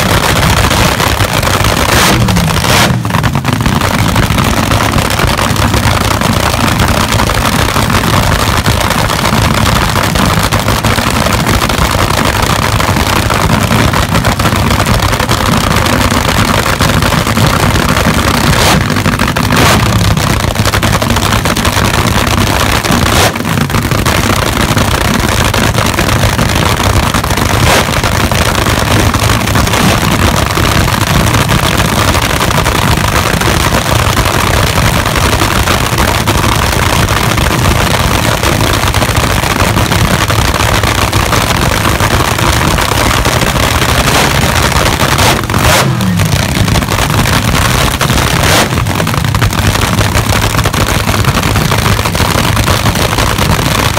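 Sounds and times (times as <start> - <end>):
race car engine running: 0.0 - 53.9.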